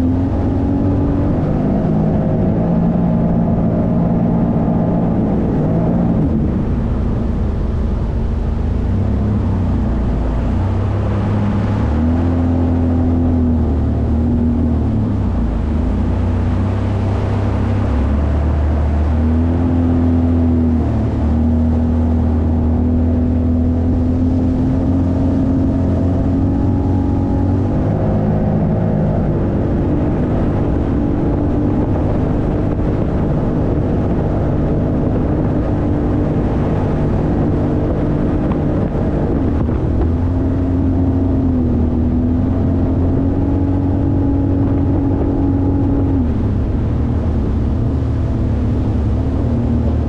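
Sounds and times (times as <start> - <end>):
jet ski engine running: 0.0 - 50.0
steady rushing water noise: 0.0 - 50.0.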